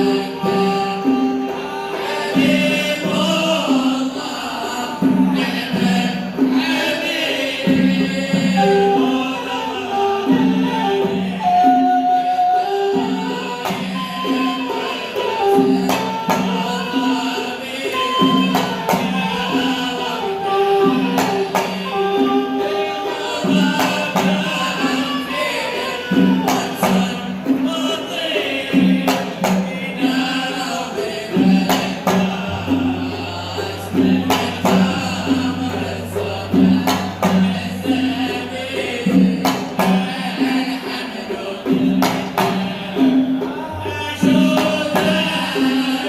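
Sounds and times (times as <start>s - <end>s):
hand percussion beat: 0.0s - 46.0s
person singing: 0.0s - 46.0s.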